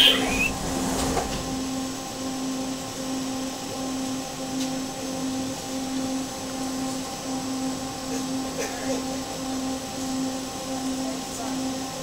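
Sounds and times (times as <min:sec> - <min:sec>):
train car hum pulsing: 0:00.0 - 0:12.0.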